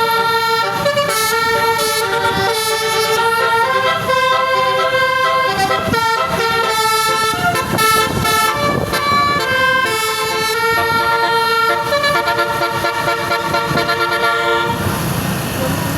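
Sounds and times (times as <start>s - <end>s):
musical bus horn playing a tune: 0.0s - 15.1s.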